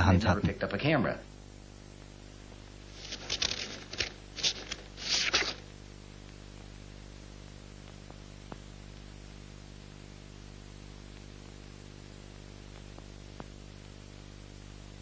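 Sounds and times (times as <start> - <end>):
background hiss: 0.0 - 15.0
low electrical hum: 0.0 - 15.0.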